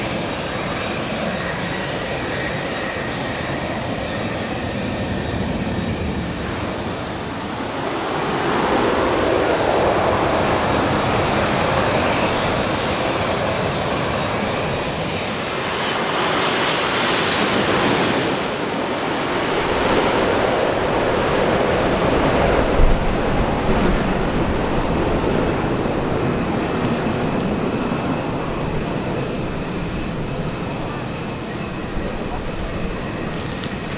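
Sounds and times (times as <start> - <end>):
jet airliner engine roar: 0.0 - 33.9.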